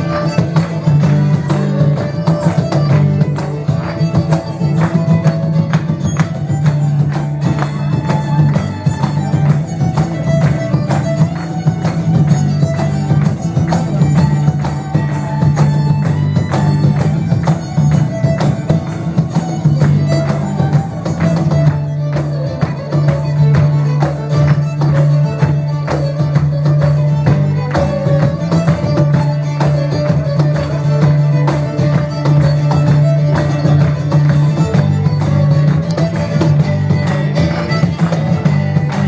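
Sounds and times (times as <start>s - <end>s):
folk dance music: 0.0s - 39.0s.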